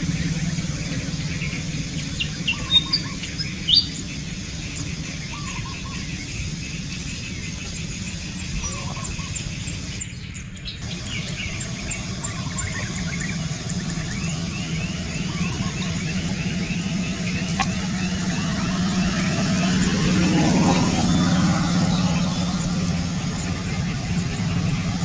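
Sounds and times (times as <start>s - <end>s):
steady low drone: 0.0s - 25.0s.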